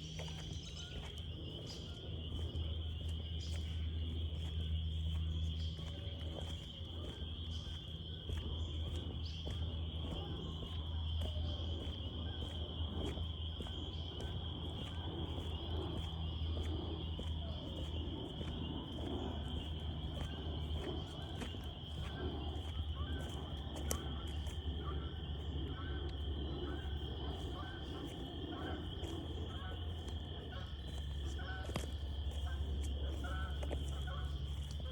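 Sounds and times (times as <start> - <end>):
frog calls: 0.0 - 34.9
frogs trilling: 0.0 - 34.9.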